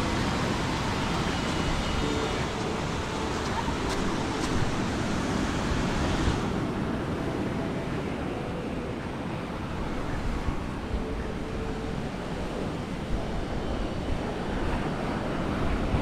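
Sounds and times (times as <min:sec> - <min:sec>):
surf washing on beach: 0:00.0 - 0:16.0
wind rumble on microphone: 0:00.0 - 0:16.0.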